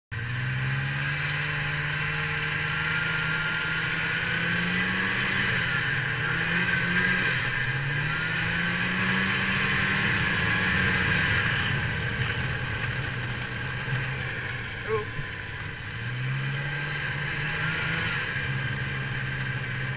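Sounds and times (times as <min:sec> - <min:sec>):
snowmobile engine running: 0:00.1 - 0:19.9
high whine: 0:03.2 - 0:19.9.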